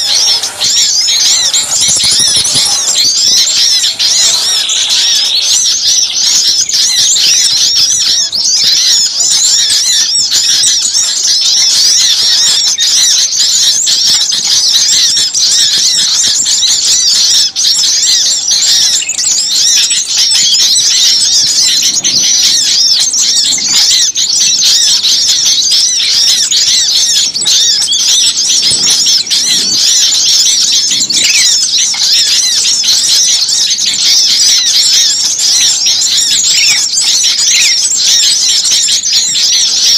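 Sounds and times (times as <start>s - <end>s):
chorus of songbirds chirping: 0.0s - 39.9s.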